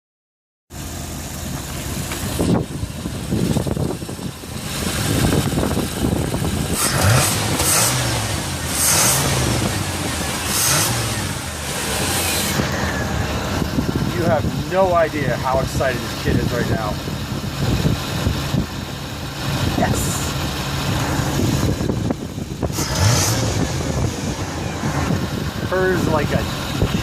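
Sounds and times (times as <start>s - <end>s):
car engine revving: 0.7s - 27.0s.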